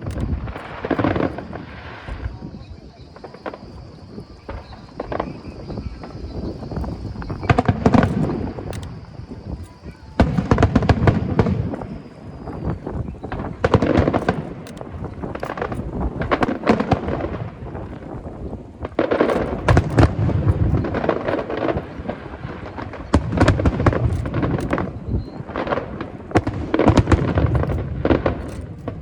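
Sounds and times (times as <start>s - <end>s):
fireworks booming: 0.0s - 29.0s
fireworks crackling: 0.0s - 29.0s.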